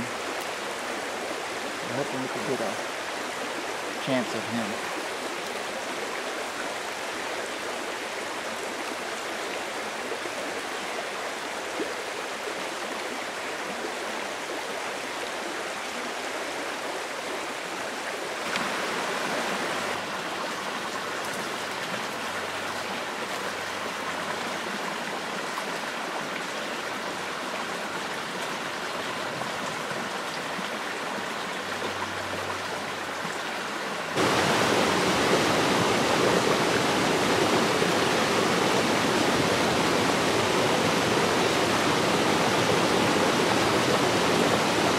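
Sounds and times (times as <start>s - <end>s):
stream flowing over rocks: 0.0s - 44.9s.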